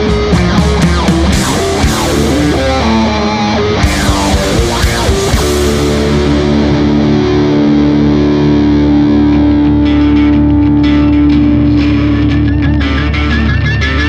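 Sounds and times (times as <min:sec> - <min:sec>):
distorted electric guitar rock: 0:00.0 - 0:14.0.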